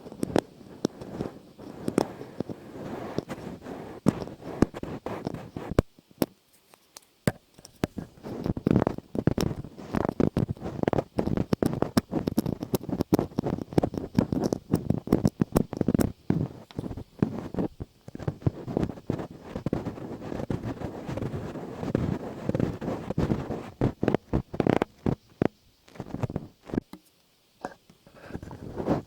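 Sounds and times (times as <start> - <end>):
rubbing and scratching: 0.0 - 29.0.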